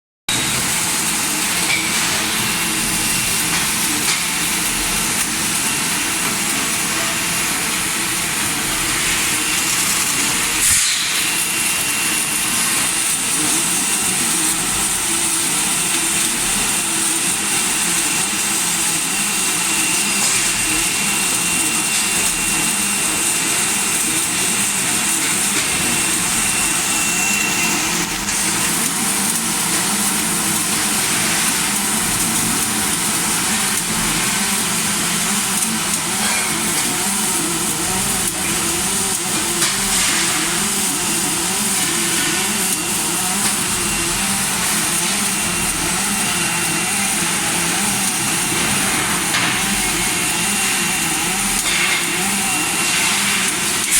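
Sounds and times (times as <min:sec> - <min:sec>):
industrial machinery hiss: 0:00.3 - 0:53.9.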